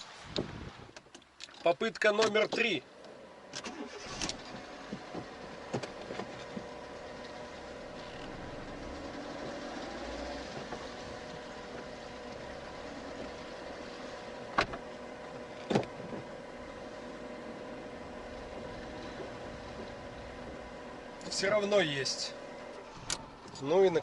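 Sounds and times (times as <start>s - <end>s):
car engine humming: 2.1s - 24.0s.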